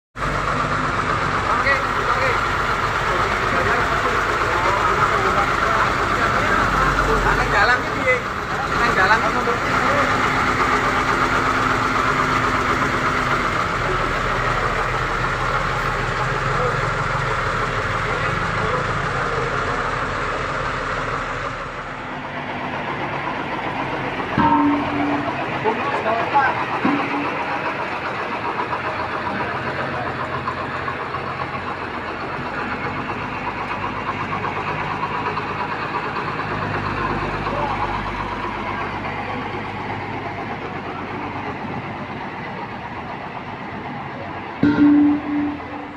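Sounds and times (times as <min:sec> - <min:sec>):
truck diesel engine running: 0:00.2 - 0:45.9.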